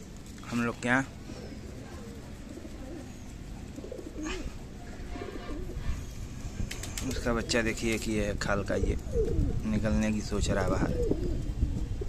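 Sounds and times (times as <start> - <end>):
pigeons cooing: 0.0 - 12.0
rustle: 0.0 - 12.0.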